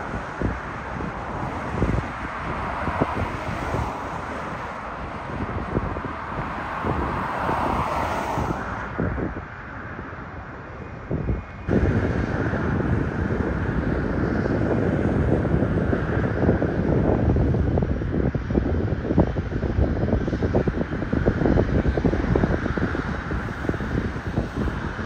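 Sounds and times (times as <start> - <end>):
aircraft engine noise: 0.0 - 25.0
wind buffeting microphone: 0.0 - 25.0.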